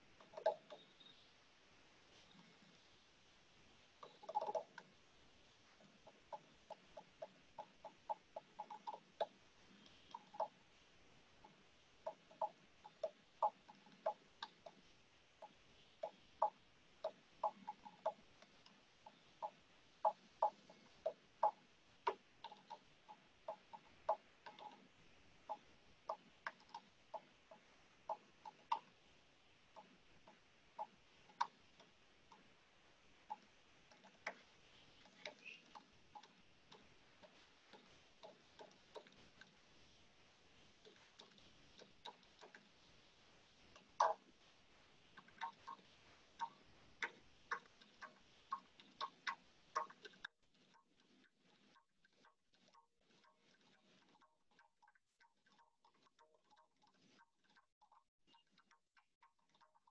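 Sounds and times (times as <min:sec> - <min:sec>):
faint room hiss: 0:00.0 - 0:50.3.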